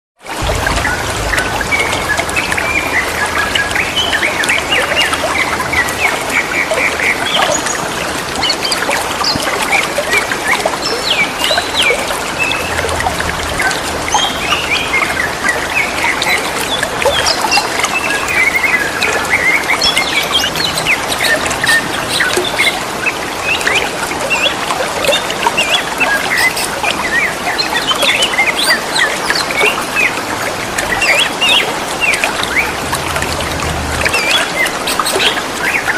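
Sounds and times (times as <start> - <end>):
trickle of running water: 0.3 - 35.9.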